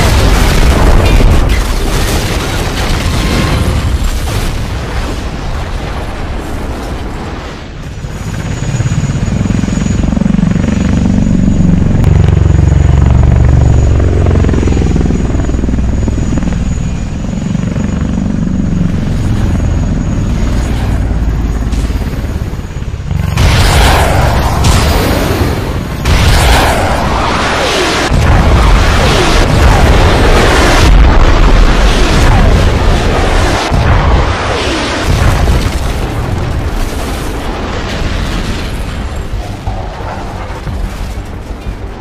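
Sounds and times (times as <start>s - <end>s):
low pulsing mechanical drone: 0.0s - 42.0s.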